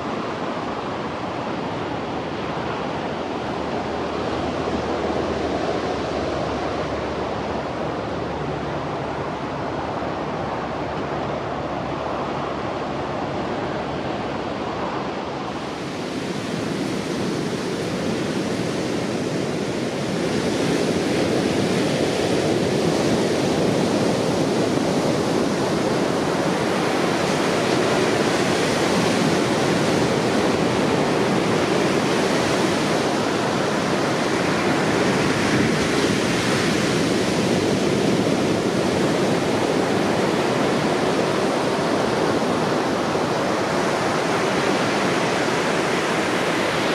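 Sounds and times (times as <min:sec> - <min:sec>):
heavy surf breaking on shore: 0:00.0 - 0:46.9.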